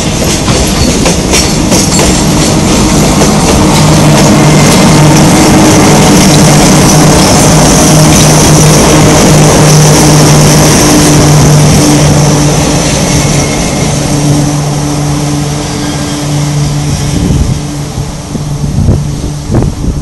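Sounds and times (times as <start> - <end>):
electric locomotive humming: 0.0 - 20.0.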